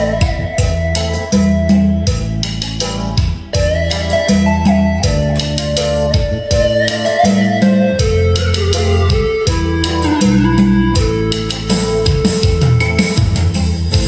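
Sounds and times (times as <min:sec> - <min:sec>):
instrumental music with drums and guitar: 0:00.0 - 0:14.0.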